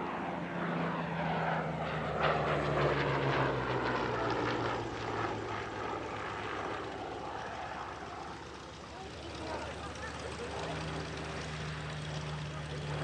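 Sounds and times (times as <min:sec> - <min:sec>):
propeller plane passing overhead: 0:00.0 - 0:13.0.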